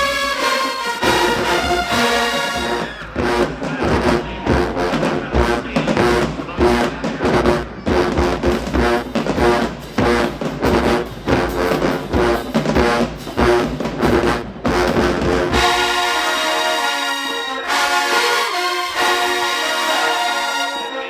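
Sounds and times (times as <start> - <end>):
drum beat: 0.0 - 16.9
brass hits: 0.0 - 21.0
marching band playing: 0.0 - 21.0.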